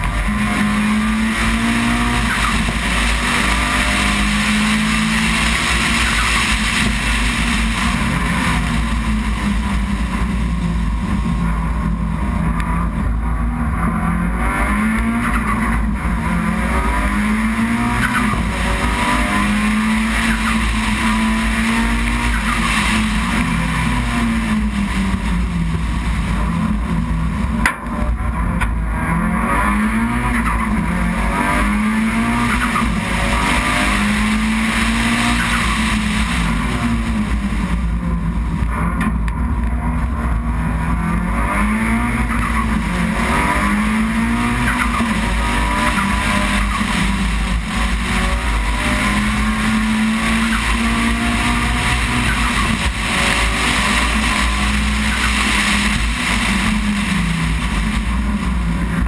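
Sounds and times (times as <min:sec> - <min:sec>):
race car engine revving: 0:00.0 - 0:59.0
wind and road noise: 0:00.0 - 0:59.0.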